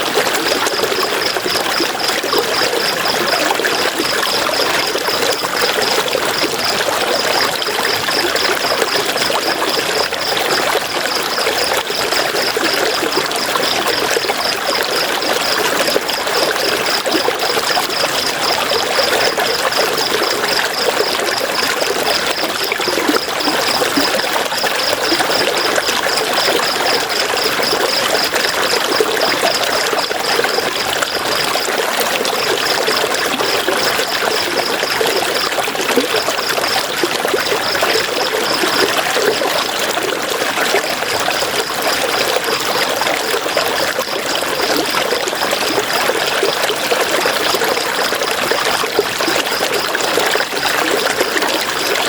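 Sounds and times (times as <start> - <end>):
river water flowing and splashing: 0.0 - 52.0.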